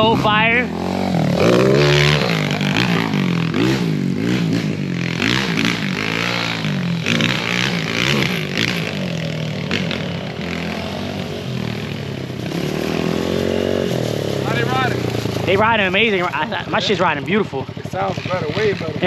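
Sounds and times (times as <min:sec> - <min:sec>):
motorbike engine revving: 0:00.0 - 0:19.0.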